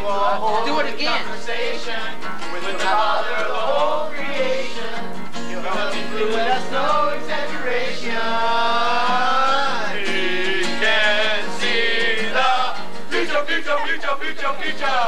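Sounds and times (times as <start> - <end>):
acoustic guitar strumming: 0.0 - 15.0
group singing along: 0.0 - 15.0
man singing: 0.0 - 15.0.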